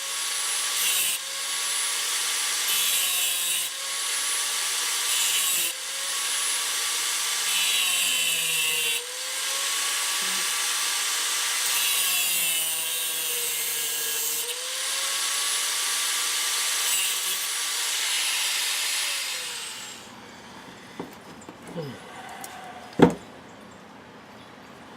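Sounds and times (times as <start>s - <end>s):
cutoff wheel grinding metal: 0.0s - 21.2s.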